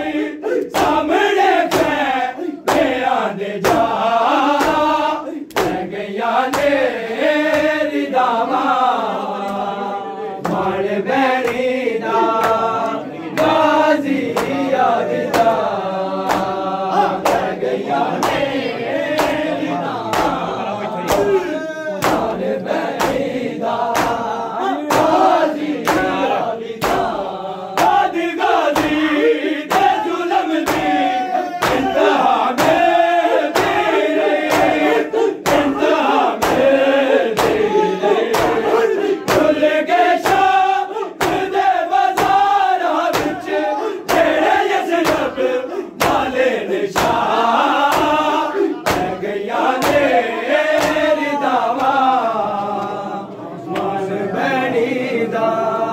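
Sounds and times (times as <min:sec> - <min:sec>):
men beating chests in unison: 0:00.0 - 0:09.8, 0:10.4 - 0:52.8
men chanting together: 0:00.0 - 0:55.9.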